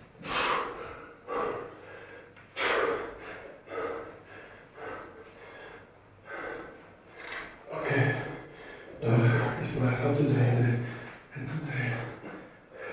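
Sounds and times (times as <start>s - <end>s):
man breathing heavily: 0.0s - 9.7s, 10.6s - 12.9s.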